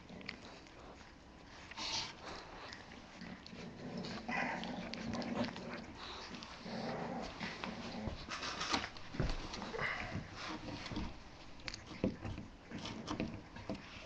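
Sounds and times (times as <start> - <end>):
puppy crunching kibble: 0.0 - 14.0.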